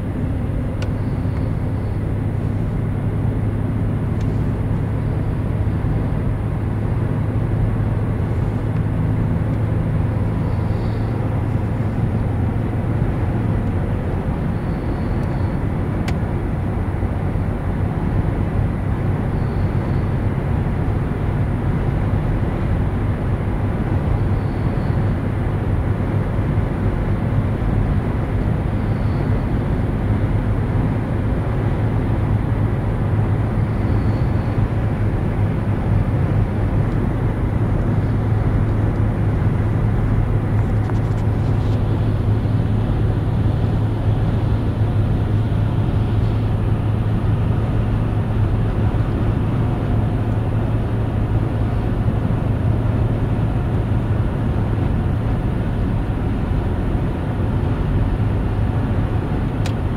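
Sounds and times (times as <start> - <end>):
traffic engine rumble: 0.0 - 59.9.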